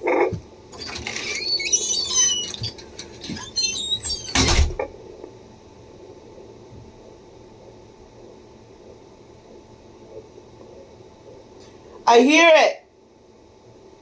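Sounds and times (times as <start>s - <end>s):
static hiss: 0.0s - 14.0s.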